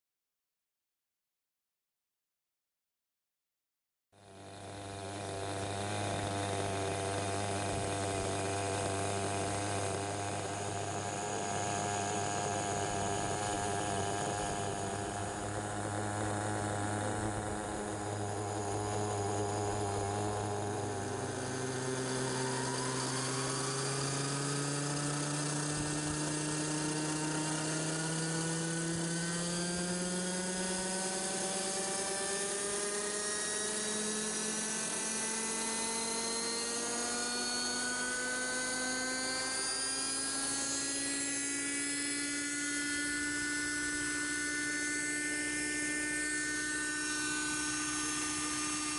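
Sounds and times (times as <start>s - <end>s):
model helicopter engine whining: 4.2s - 48.9s.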